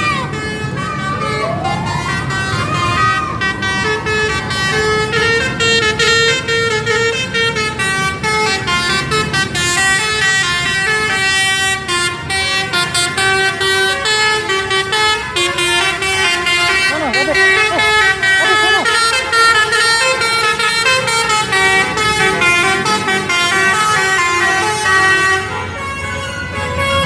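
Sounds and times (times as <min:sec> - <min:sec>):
truck melody horn playing tune: 0:00.0 - 0:27.0.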